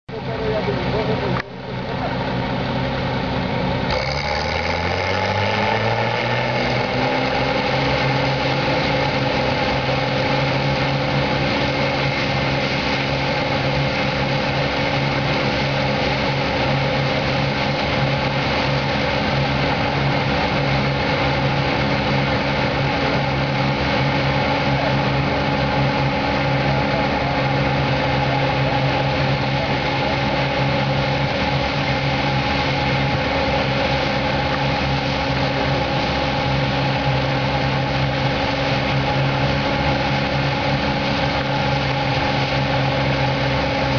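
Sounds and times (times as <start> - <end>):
diesel engine revving: 0.1 - 43.9.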